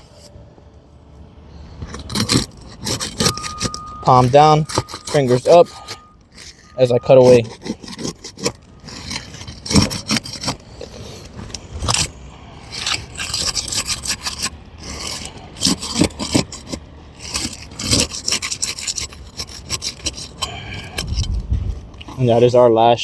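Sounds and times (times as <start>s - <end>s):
tool scraping roof shingle: 1.5s - 22.6s.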